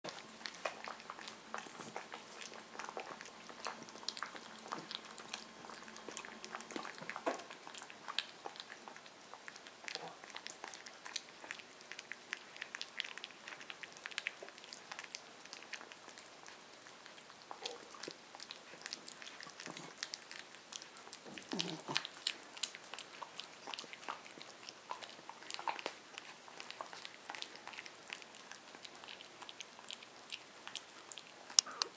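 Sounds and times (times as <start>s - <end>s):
puppy lapping and eating: 0.0s - 31.9s.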